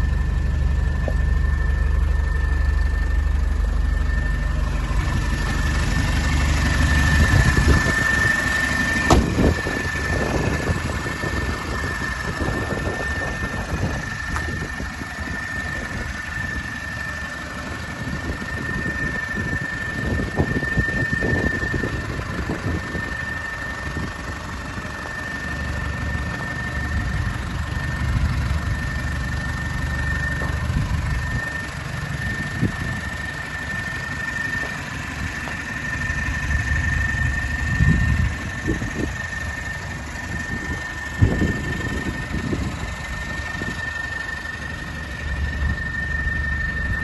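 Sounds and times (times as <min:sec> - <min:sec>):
high-pitched whine: 0:00.0 - 0:47.0
truck engine idling: 0:00.0 - 0:47.0.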